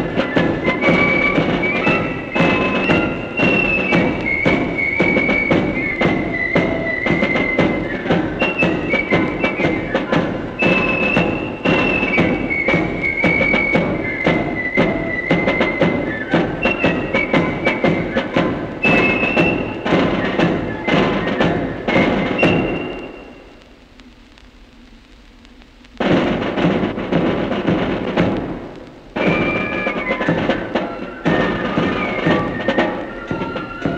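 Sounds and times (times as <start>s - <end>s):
flutes playing march melody: 0.0s - 23.7s, 28.8s - 33.9s
snare and bass drums: 0.0s - 33.9s.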